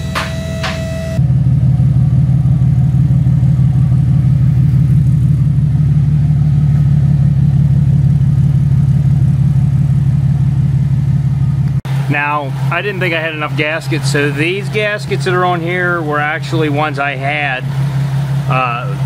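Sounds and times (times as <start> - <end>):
car engine idling through exhaust: 0.0 - 19.0.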